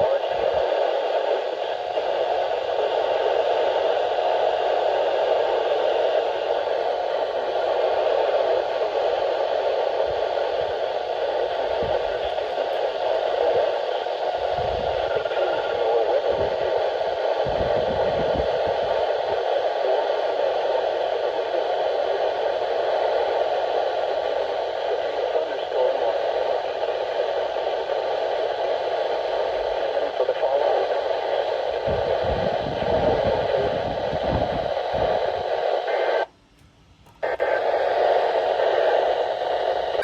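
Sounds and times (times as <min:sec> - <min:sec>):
radio static hiss: 0:00.0 - 0:40.0.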